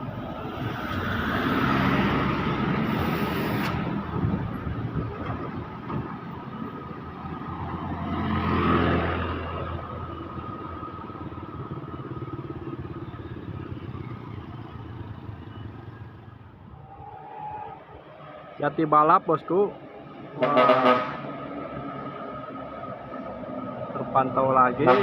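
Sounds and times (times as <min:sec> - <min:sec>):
vehicle passing on road: 0:00.0 - 0:25.0.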